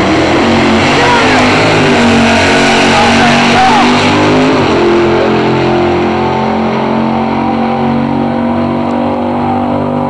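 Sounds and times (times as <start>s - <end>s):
racing car engine at full throttle: 0.0s - 10.0s.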